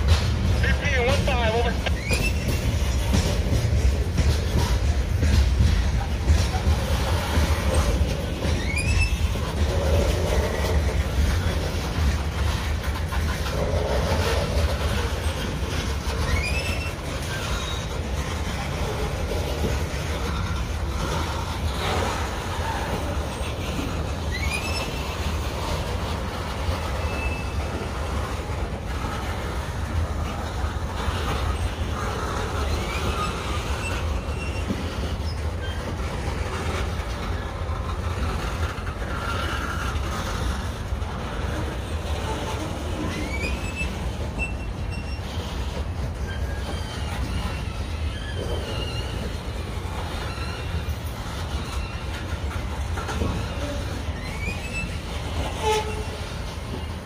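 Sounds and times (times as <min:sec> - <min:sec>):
freight train wheels rumbling: 0:00.0 - 0:57.0
wheel squeals: 0:00.0 - 0:57.0.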